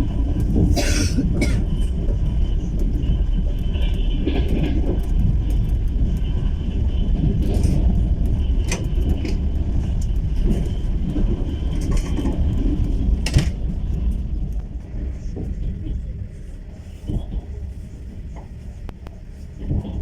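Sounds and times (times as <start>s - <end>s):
train carriage rumbling on rails: 0.0s - 20.0s.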